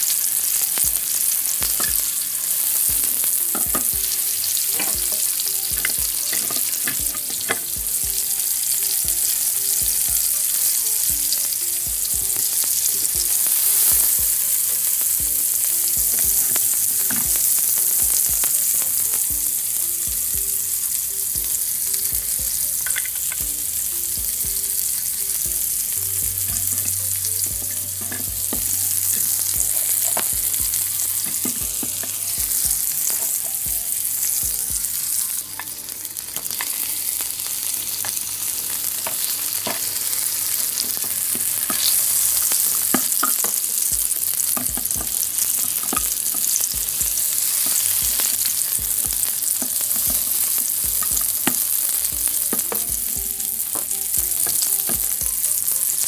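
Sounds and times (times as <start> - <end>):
frying sizzle: 0.0 - 56.0.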